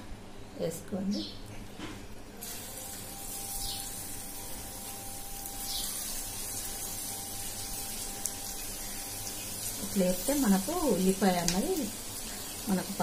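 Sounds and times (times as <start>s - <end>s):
batter sizzling in hot oil: 2.4s - 13.0s.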